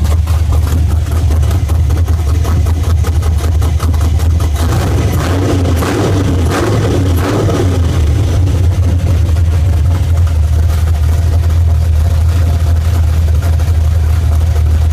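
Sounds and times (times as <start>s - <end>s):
engine idling with lopey beat: 0.0s - 14.9s.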